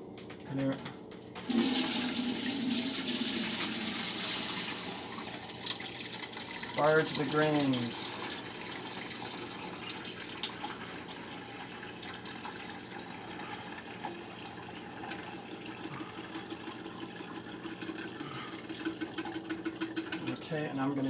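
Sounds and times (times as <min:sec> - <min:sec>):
liquid pouring and trickling: 0:01.4 - 0:21.0.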